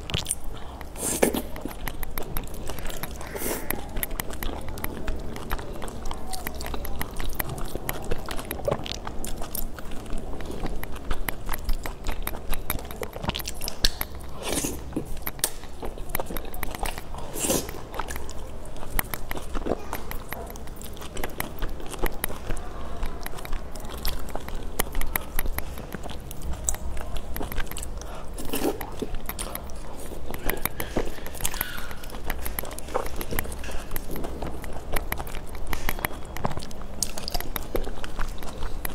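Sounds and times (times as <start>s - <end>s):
person chewing wet food: 0.0s - 38.9s.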